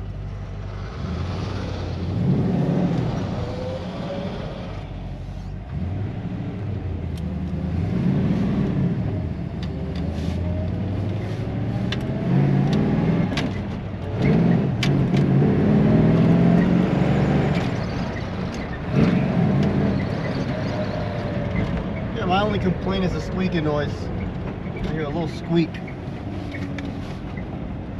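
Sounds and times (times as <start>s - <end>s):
car engine accelerating: 0.0s - 27.3s.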